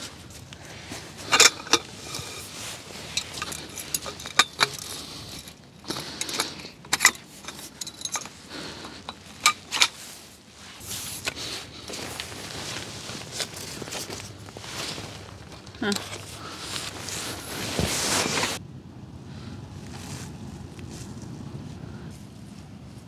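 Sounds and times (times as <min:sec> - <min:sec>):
metal poles clicking and rattling: 0:00.0 - 0:18.6.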